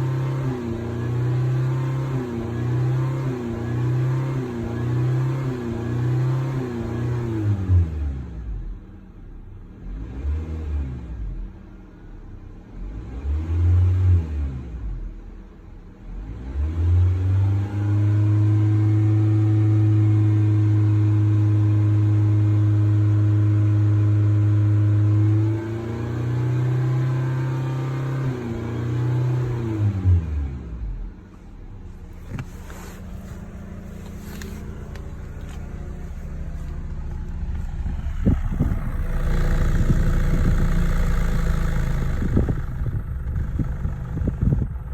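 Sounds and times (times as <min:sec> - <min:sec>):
car engine revving: 0:00.0 - 0:08.1, 0:16.1 - 0:44.9.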